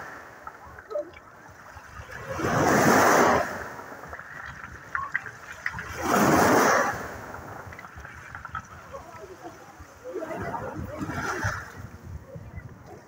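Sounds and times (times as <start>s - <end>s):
waves washing on pebbles: 0.0s - 12.2s.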